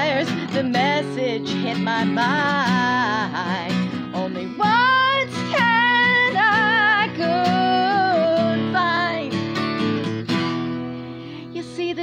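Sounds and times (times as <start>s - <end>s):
woman singing with vibrato: 0.0s - 9.4s, 11.4s - 12.0s
strummed acoustic guitar: 0.0s - 12.0s.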